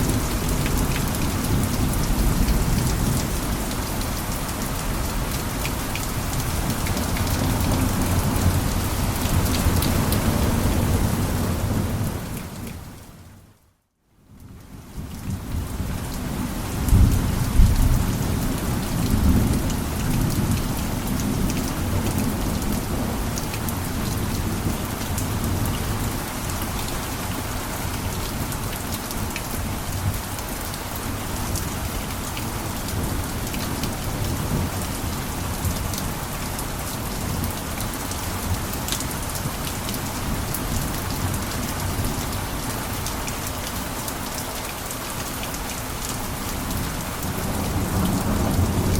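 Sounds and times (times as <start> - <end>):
heavy rain on a roof: 0.0 - 48.9.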